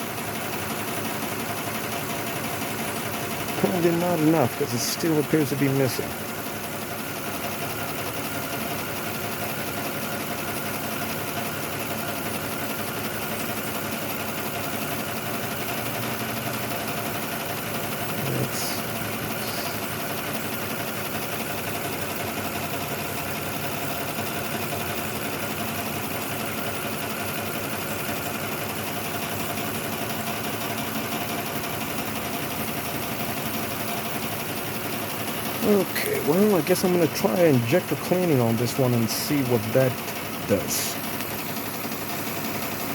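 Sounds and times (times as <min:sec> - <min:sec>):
car engine idling with misfire: 0:00.0 - 0:42.9.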